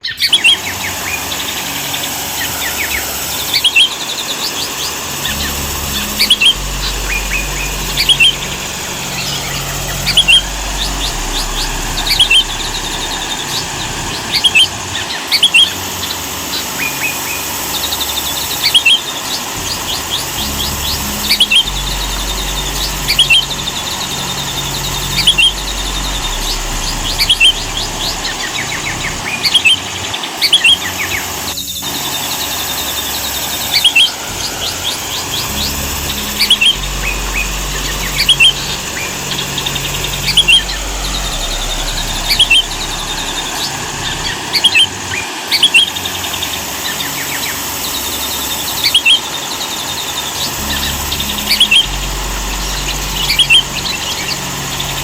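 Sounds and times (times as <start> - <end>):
bird singing bubbly phrases: 0.0 - 55.0
steady hiss: 0.0 - 55.0.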